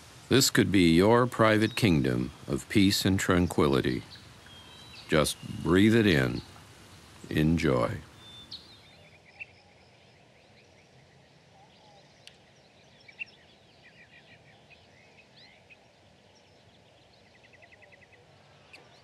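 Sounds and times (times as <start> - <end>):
soft hiss: 0.0 - 17.2
small birds chirping: 0.0 - 19.0.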